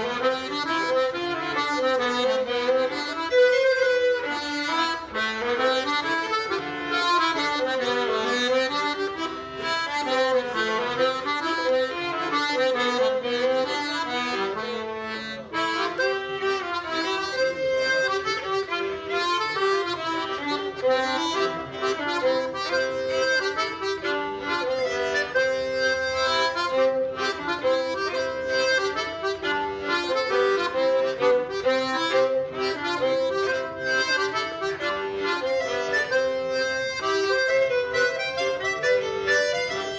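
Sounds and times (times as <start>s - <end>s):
accordion playing a dance tune: 0.0s - 39.9s.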